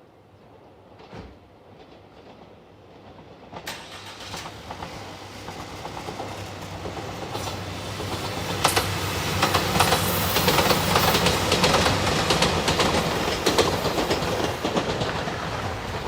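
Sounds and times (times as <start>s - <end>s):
train rumble: 0.4s - 16.0s.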